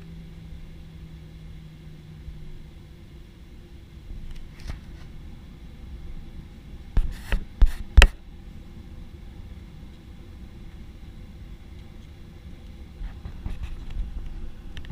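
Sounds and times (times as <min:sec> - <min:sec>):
airplane cabin hum: 0:00.0 - 0:14.9.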